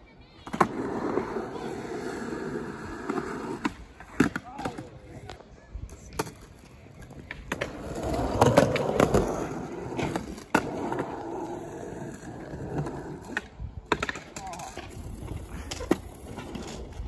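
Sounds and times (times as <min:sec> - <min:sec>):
skateboard wheels rolling on concrete: 0:00.0 - 0:17.0
skateboard clacks: 0:02.9 - 0:17.0.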